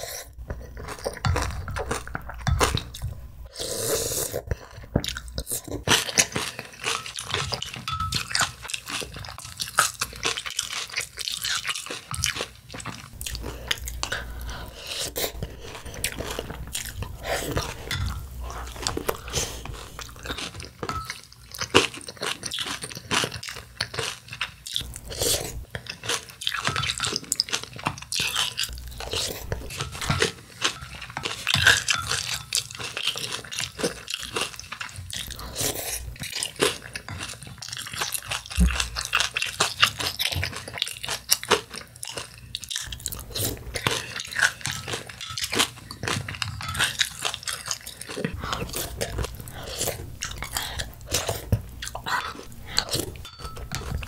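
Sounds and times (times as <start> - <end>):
chewing crunchy cereal: 0.0 - 54.0
spoon stirring in ceramic bowl: 0.4 - 3.4, 4.5 - 24.0, 24.8 - 41.6, 42.2 - 54.0.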